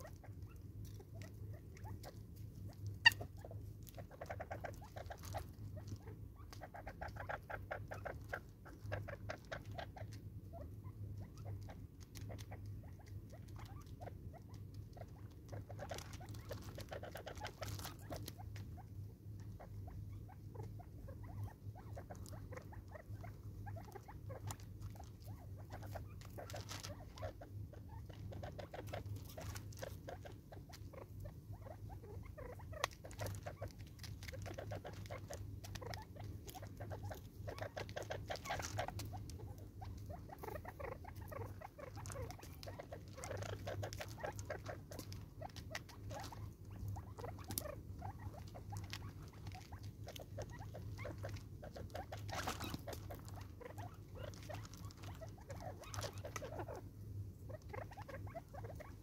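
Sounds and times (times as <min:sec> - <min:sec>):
birds pecking on gravel: 0:00.0 - 0:59.0.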